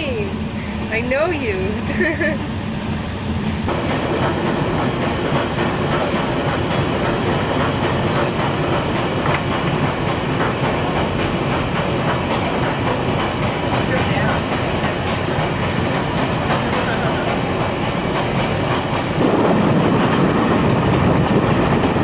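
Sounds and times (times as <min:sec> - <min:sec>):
train wheels clickety-clack: 0:00.0 - 0:22.0.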